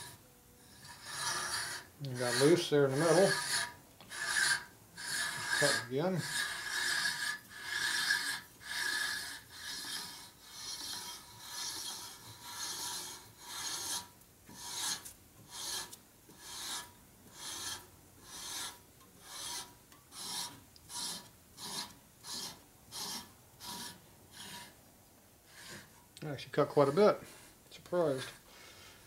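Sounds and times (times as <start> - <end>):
hand reamer scraping metal: 0.0 - 24.8, 25.5 - 28.4.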